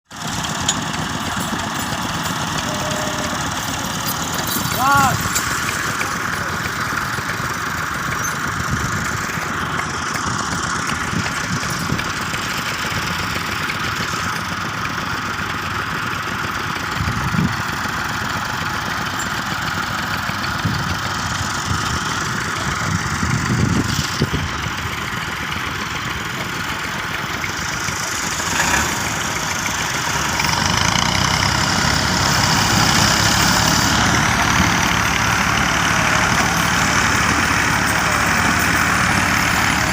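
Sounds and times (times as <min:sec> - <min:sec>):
tractor diesel engine idling: 0:00.1 - 0:39.9.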